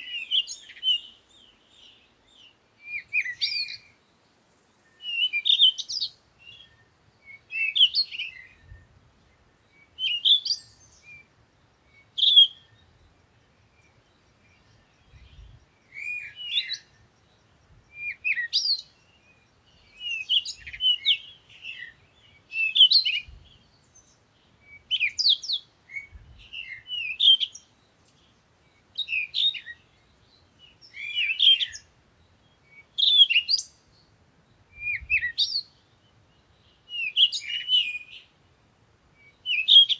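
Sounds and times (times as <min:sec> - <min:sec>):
songbird twittering: 0:00.0 - 0:38.4, 0:39.2 - 0:39.9.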